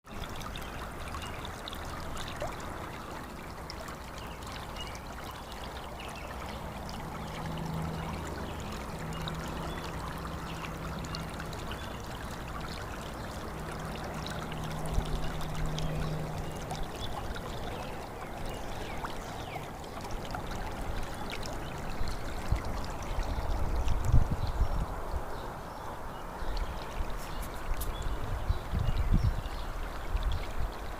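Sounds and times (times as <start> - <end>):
stream water rushing: 0.1 - 30.9.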